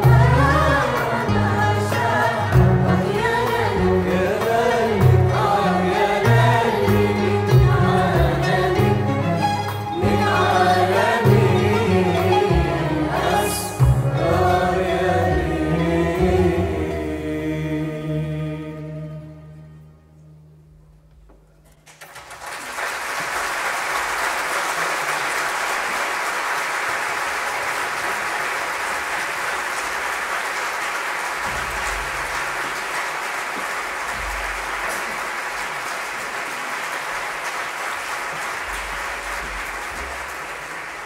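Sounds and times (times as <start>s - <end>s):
concert audience applauding: 0.0s - 13.8s, 21.7s - 41.0s.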